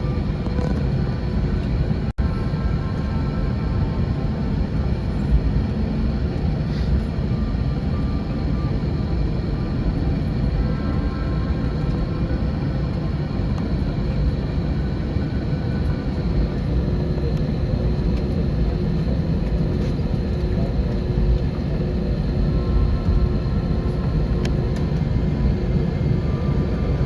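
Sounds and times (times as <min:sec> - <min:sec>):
aircraft cabin rumble while taxiing: 0:00.0 - 0:27.0.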